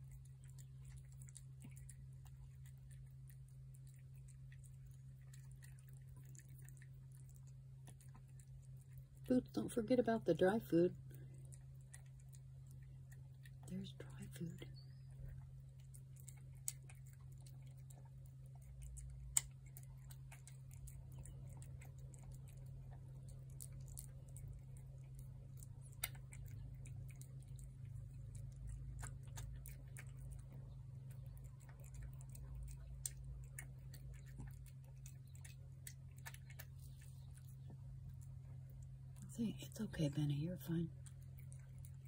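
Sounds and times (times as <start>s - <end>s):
cats chewing and licking: 0.0s - 42.0s.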